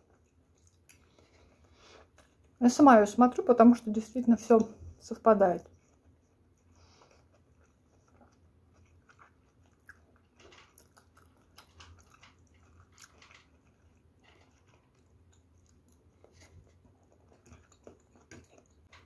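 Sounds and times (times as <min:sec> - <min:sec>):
faint chewing: 0:00.0 - 0:19.0
small eating clicks and crunches: 0:00.0 - 0:19.0.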